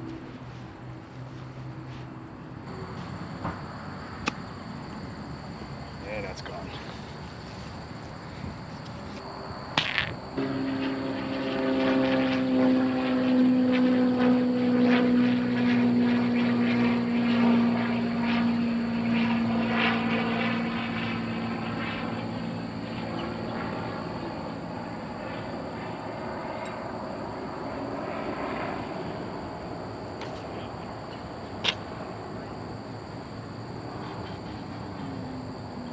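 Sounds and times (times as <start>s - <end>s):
aircraft engine drone: 0.0s - 35.9s.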